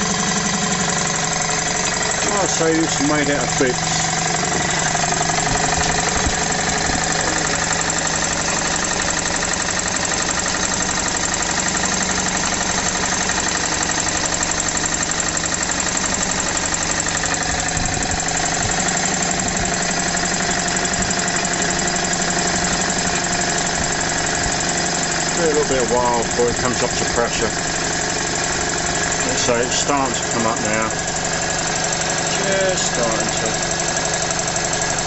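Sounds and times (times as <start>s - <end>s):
air compressor running: 0.0s - 35.0s.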